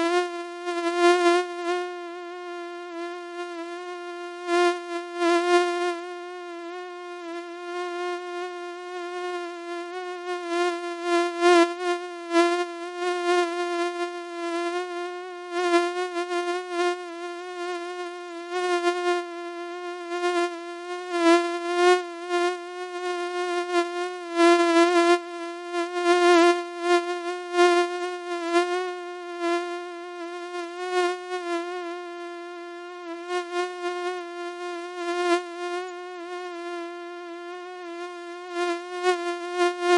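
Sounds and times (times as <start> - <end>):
mosquito buzzing: 0.0 - 39.9.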